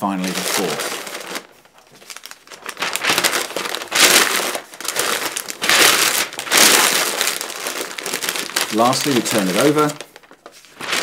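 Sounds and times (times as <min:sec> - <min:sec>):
paper rustling and crinkling: 0:00.1 - 0:11.0.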